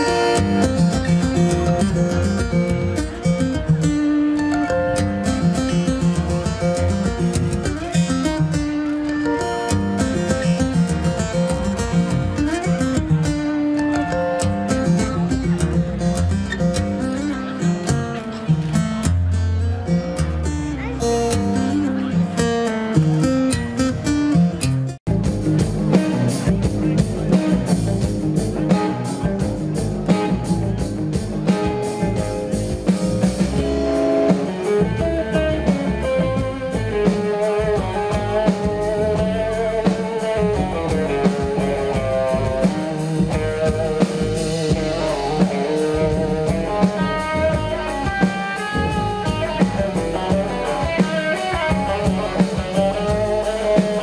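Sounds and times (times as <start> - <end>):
double bass: 0.0 - 54.0
drums: 0.0 - 54.0
electric guitar melody: 0.0 - 54.0.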